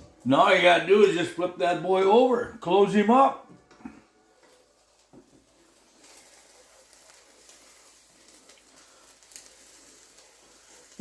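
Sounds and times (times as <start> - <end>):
omelet sizzling in a pan: 0.0 - 11.0.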